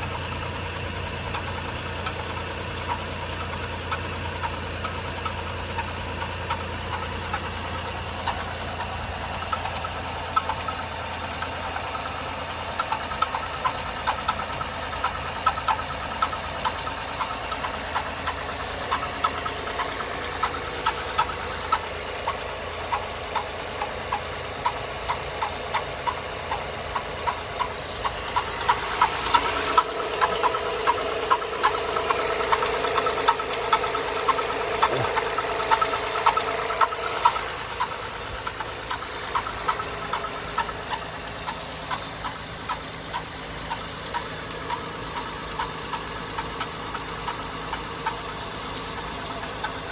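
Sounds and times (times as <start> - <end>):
car engine idling: 0.0 - 49.9
engine tapping: 0.0 - 49.9.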